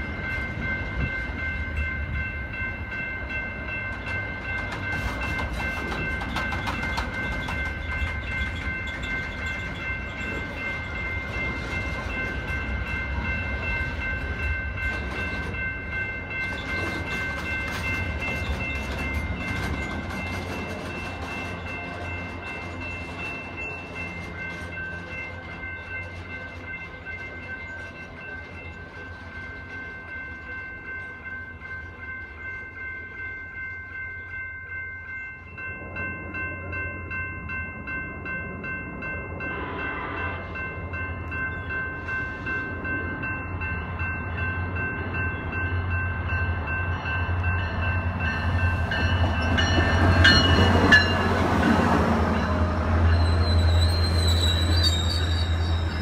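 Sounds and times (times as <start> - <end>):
steady high ringing tone: 0.0 - 56.0
train wheels rumbling on rail: 0.0 - 56.0.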